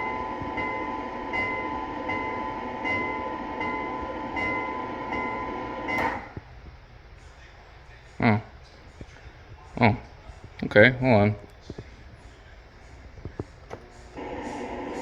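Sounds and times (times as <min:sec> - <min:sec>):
recorded train running sound: 0:00.0 - 0:15.0.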